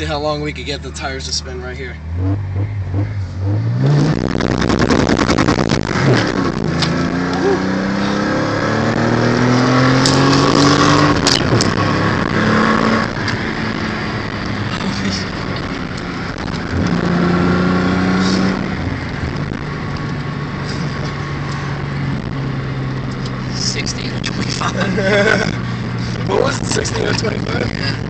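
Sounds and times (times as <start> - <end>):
car engine revving: 0.0 - 28.0
tires spinning: 1.0 - 28.0.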